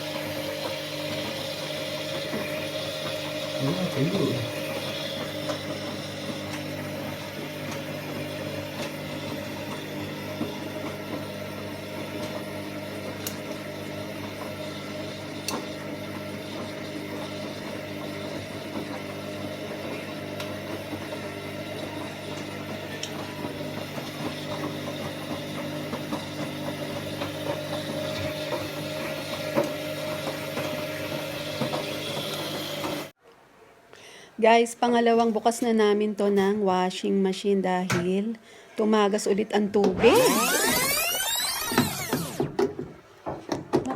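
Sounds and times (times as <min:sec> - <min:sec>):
washing machine motor hum: 0:00.0 - 0:33.2, 0:39.8 - 0:43.1.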